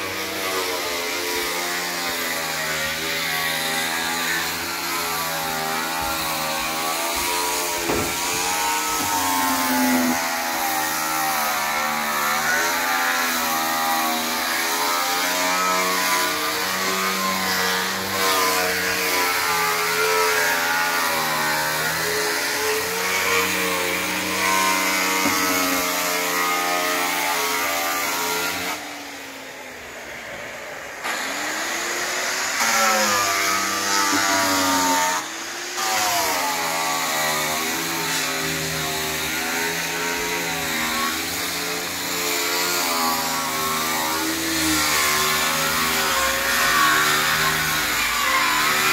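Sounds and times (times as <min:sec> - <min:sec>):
angle grinder sanding wood: 0:00.0 - 0:29.3, 0:31.0 - 0:48.9.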